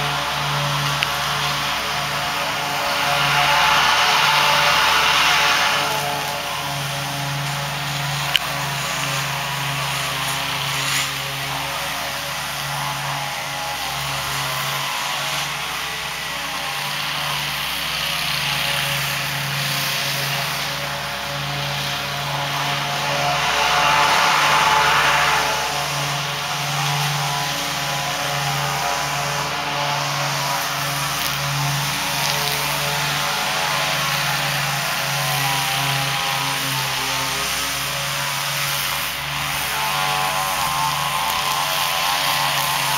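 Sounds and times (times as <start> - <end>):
lawn mower engine drone: 0.0 - 42.9.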